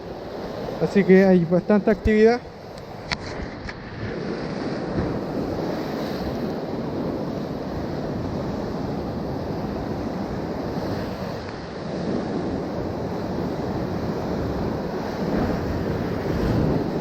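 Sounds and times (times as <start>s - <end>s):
sea surf washing: 0.0s - 17.0s
wind buffeting microphone: 0.0s - 17.0s.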